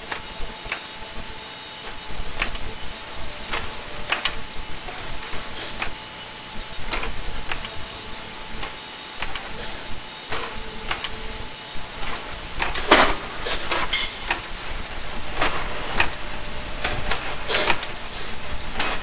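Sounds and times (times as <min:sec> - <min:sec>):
machine running steadily: 0:00.0 - 0:19.0
mechanical clicks and clunks: 0:00.0 - 0:19.0.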